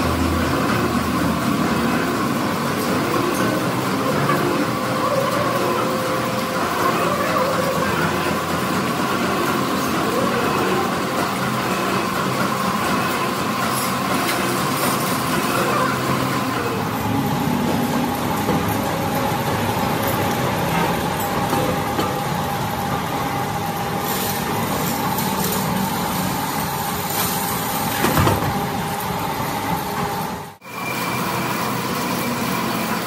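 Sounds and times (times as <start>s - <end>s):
machine whine: 0.0s - 33.0s
machinery running: 0.0s - 33.0s.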